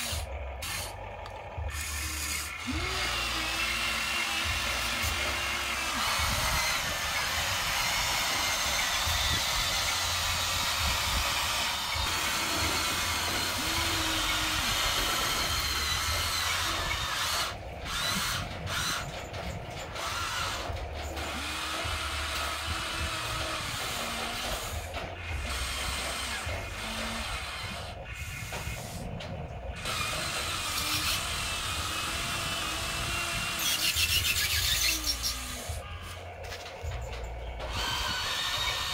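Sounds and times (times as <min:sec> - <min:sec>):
toy excavator motors whirring: 0:00.0 - 0:38.9.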